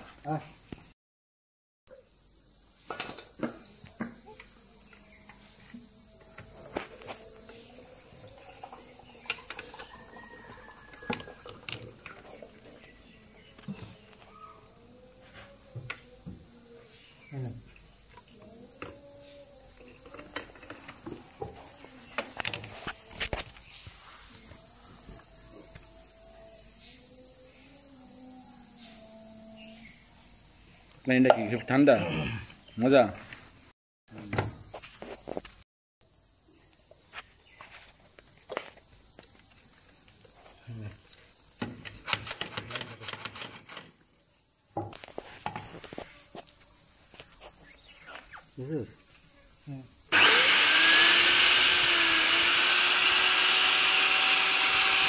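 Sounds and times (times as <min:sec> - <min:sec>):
high-pitched insect chorus: 0:00.0 - 0:00.9, 0:01.9 - 0:55.0.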